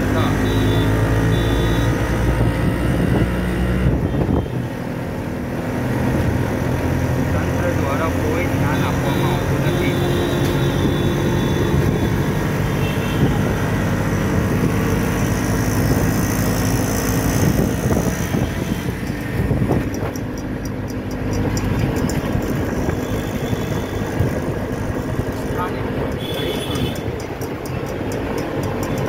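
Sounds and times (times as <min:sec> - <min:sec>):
street traffic noise: 0:00.0 - 0:29.0
vehicle engine running: 0:00.0 - 0:29.0.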